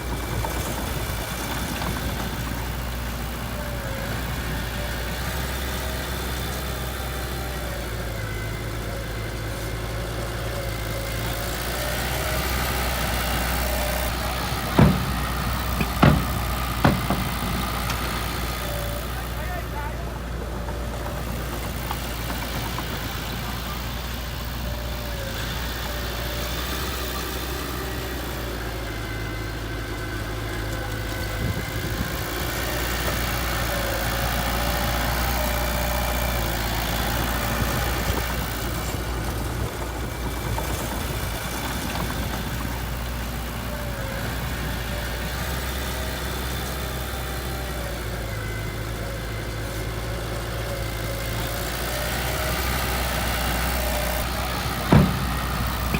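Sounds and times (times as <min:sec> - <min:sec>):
heavy diesel engine idling: 0:00.0 - 0:55.9.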